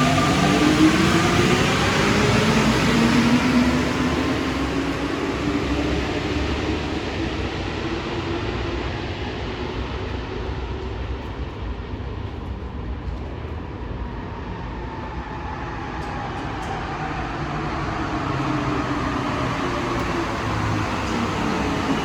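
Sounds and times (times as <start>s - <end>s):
wheel and rail noise: 0.0s - 22.0s.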